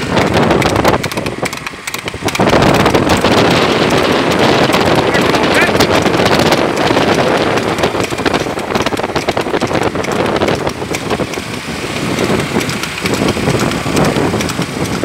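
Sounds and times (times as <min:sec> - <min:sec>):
vehicles running: 0:00.0 - 0:15.0
wind buffeting microphone: 0:00.0 - 0:15.0.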